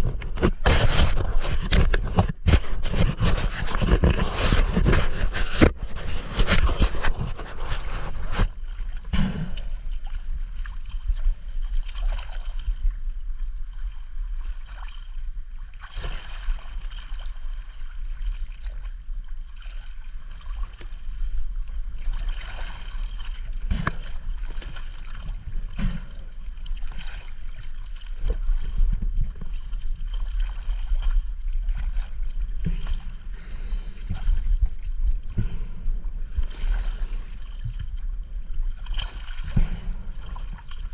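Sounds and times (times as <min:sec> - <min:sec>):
steady low rumble: 0:00.0 - 0:15.8, 0:16.6 - 0:40.9
water sloshing and splashing: 0:00.0 - 0:40.9.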